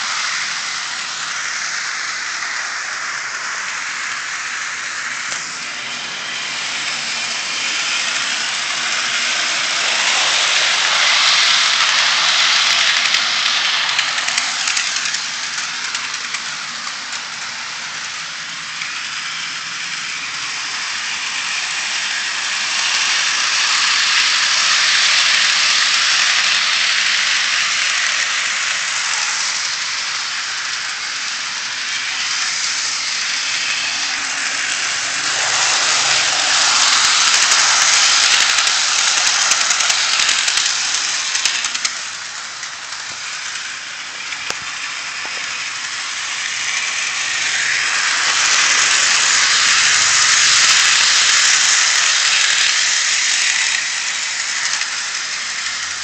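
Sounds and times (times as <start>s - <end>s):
model train wheels rattling on rails: 0.0s - 56.0s.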